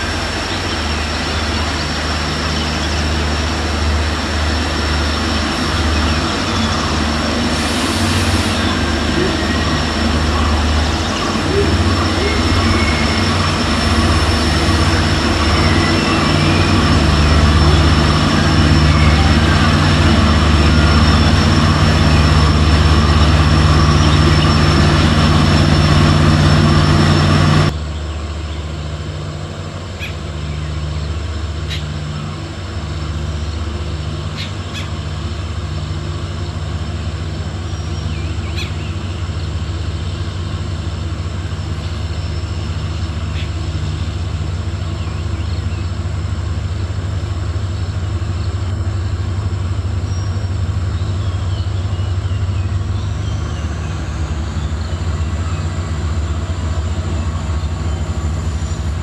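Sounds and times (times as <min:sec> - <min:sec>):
diesel locomotive engine humming: 0:00.0 - 0:59.0.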